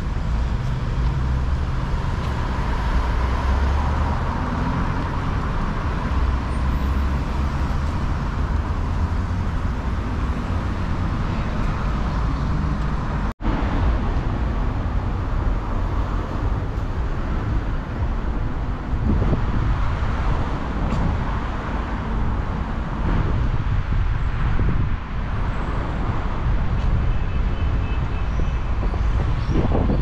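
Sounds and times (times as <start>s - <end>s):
cars driving past: 0.0s - 29.9s.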